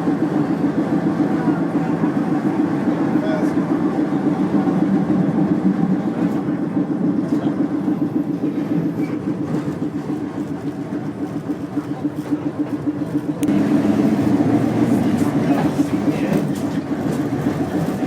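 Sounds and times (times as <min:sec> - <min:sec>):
streetcar rumbling on track: 0:00.0 - 0:18.0.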